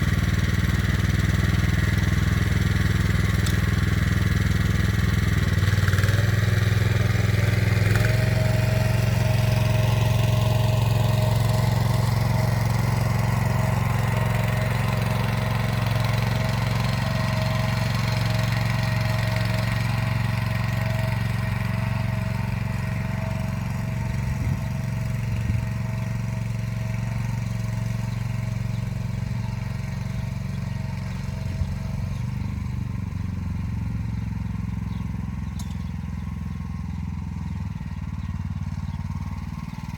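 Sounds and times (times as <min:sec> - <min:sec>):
walk-behind tractor engine running: 0:00.0 - 0:39.9.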